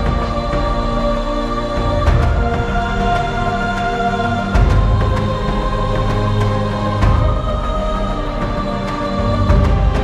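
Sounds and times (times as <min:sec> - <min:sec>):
dark sustained chords: 0:00.0 - 0:10.0.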